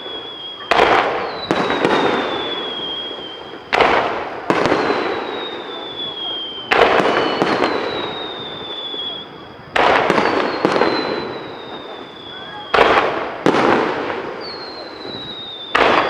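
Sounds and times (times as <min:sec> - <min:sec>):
firework bangs with crackle: 0:00.0 - 0:16.0.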